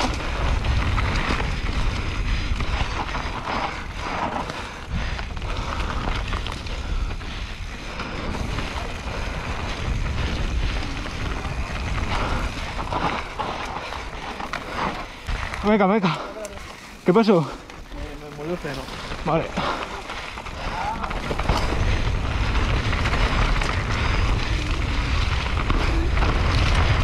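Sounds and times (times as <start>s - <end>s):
mountain bike rattling: 0.0s - 27.0s
wind buffeting microphone: 0.0s - 27.0s.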